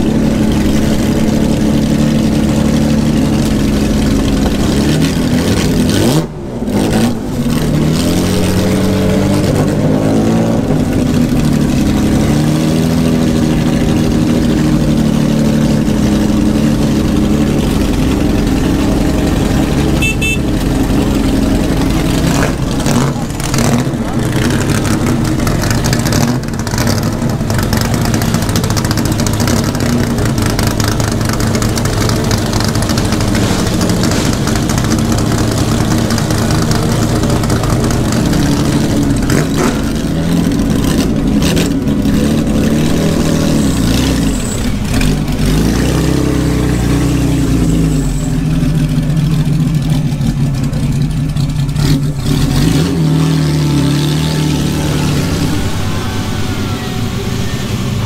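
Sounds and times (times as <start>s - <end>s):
racing car engines idling and revving: 0.0s - 58.0s.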